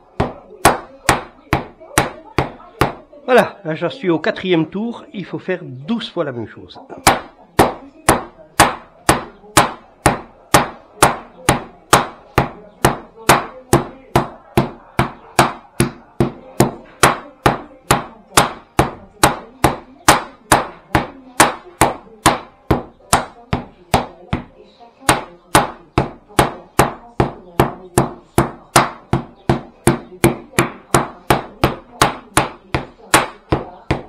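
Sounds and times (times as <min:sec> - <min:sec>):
rolling pin thwacking dough: 0:00.1 - 0:03.0, 0:07.0 - 0:34.0.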